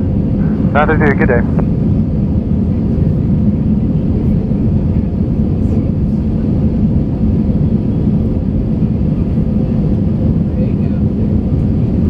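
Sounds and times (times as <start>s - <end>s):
jet engine roar in cabin: 0.0s - 12.0s.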